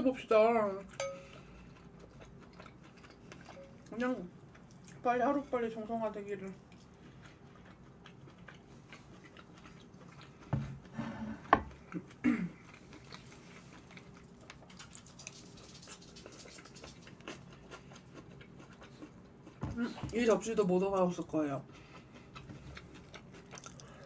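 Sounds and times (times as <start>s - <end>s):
person chewing and eating: 0.8s - 5.4s, 6.4s - 20.4s, 21.0s - 24.0s.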